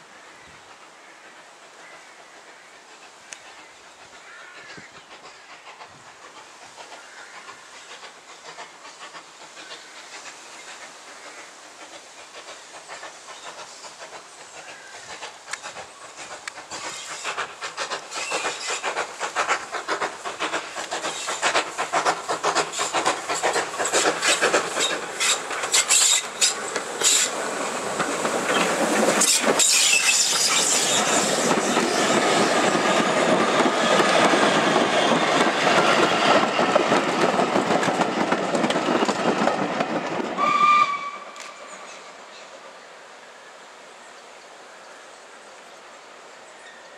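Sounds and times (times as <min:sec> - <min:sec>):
steam hissing: 0:00.0 - 0:44.7
train wheels clicking over rail joints: 0:02.3 - 0:41.8.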